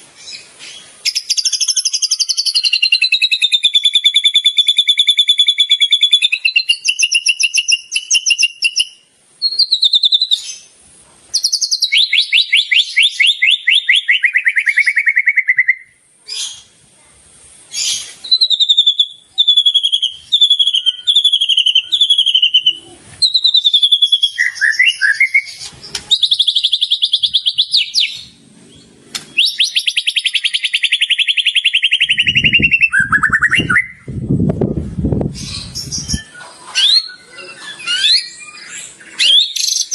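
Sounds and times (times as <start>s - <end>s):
songbird singing whistles and trills: 0.2s - 10.7s, 11.3s - 16.7s, 17.7s - 34.2s, 35.3s - 39.9s.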